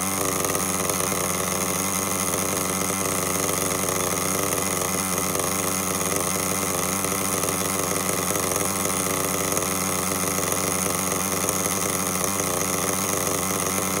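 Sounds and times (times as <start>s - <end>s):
model car engine idling: 0.0s - 14.0s.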